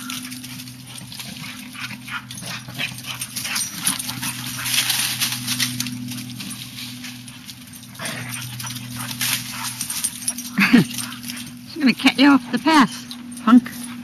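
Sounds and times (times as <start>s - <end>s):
dogs growling while playing: 0.0s - 11.7s
scuffling in dry leaves: 0.0s - 14.0s.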